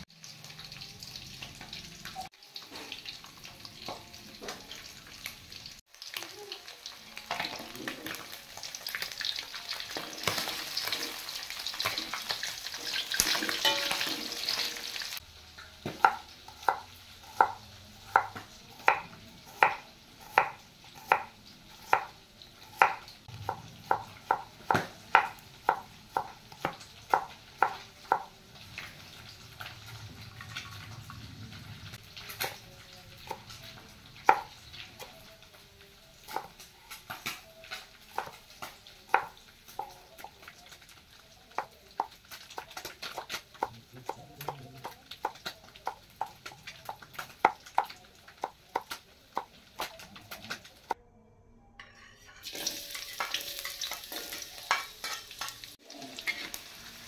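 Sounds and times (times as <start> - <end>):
fish sizzling in hot oil: 0.0 - 19.0, 19.6 - 50.1, 52.4 - 57.0.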